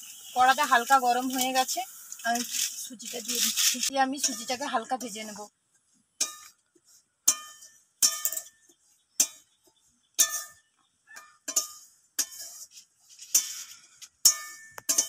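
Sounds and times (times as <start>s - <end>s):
metal spatula scraping a pan: 0.0s - 5.4s, 6.2s - 15.0s.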